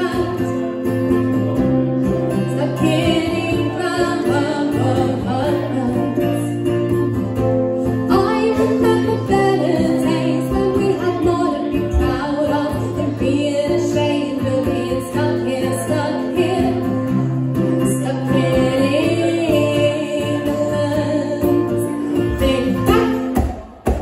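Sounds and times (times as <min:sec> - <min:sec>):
woman singing: 0:00.0 - 0:01.1, 0:02.3 - 0:07.0, 0:07.8 - 0:23.6
strummed acoustic guitar: 0:00.0 - 0:24.0
ukulele: 0:00.0 - 0:24.0.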